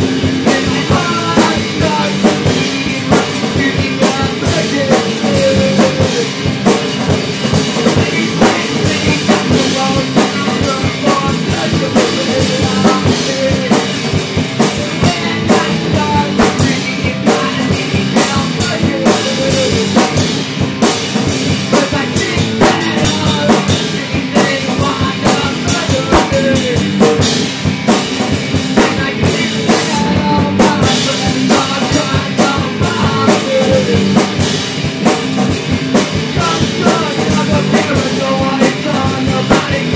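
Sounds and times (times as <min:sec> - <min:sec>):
drum kit beat: 0:00.0 - 0:39.9
electric guitar melodic lines: 0:00.0 - 0:39.9.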